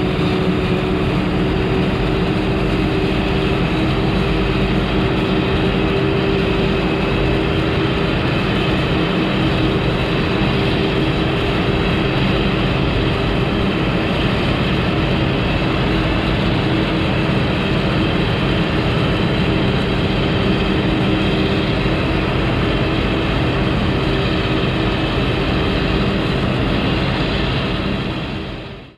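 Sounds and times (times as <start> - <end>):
farm machinery engine humming: 0.0 - 28.9.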